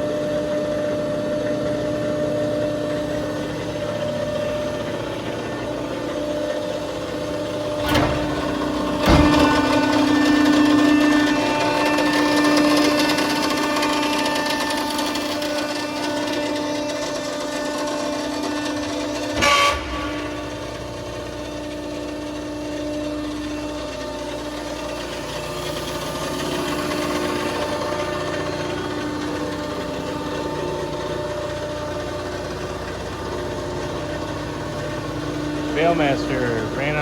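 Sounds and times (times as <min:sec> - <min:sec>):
hydraulic power unit humming: 0:00.0 - 0:37.0.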